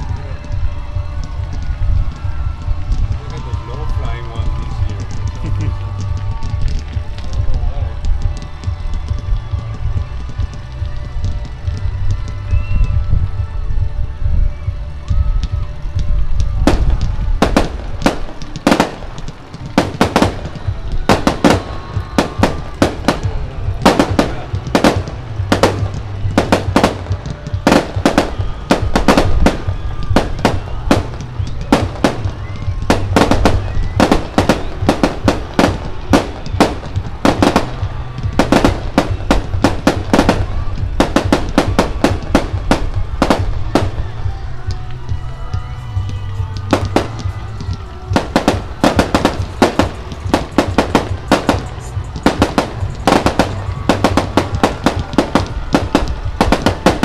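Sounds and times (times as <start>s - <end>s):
fireworks bangs and cracks: 0.0s - 57.0s
low rumble: 0.0s - 57.0s.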